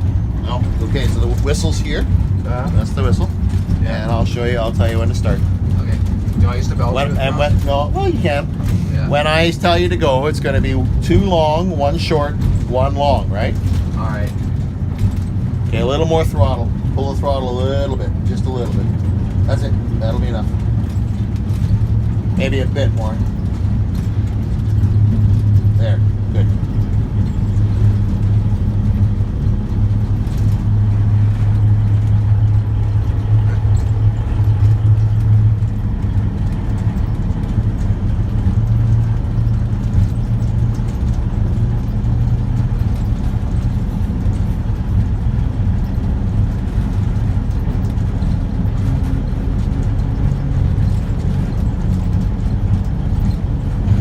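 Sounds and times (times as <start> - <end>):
locomotive engine humming: 0.0 - 54.0.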